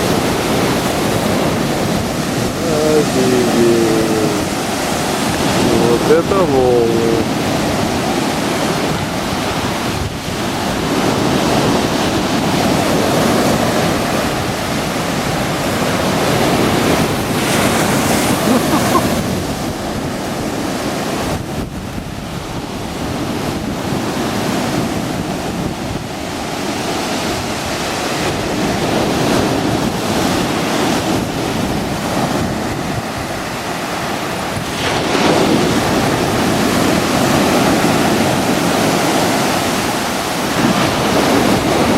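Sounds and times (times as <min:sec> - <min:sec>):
waves breaking on shore: 0:00.0 - 0:41.9.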